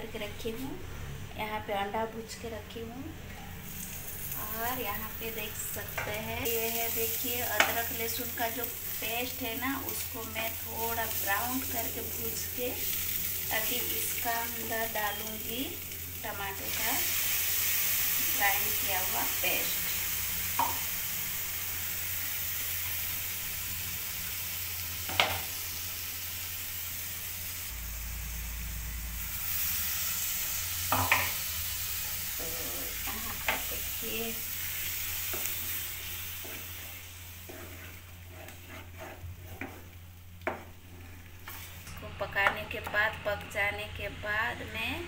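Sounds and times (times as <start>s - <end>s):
tomato paste sizzling in oil: 3.6s - 43.2s.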